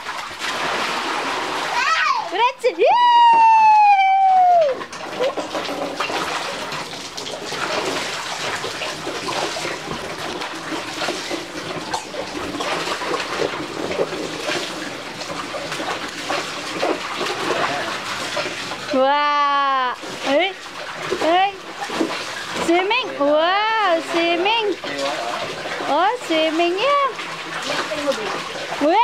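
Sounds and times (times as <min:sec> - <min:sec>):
water splashing in a pool: 0:00.0 - 0:29.0.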